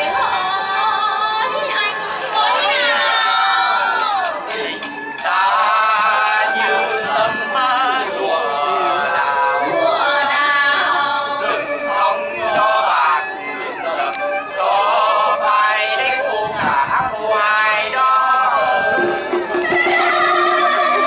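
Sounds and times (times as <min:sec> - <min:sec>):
instrumental accompaniment: 0:00.0 - 0:21.0
person singing folk song: 0:00.0 - 0:21.0.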